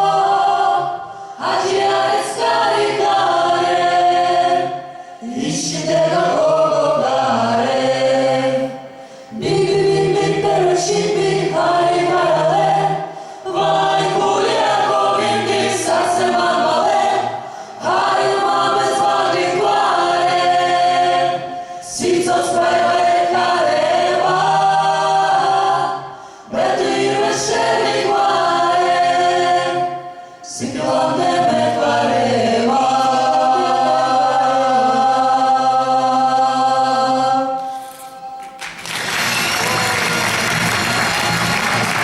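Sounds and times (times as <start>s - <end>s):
choir singing in harmony: 0.0s - 42.0s.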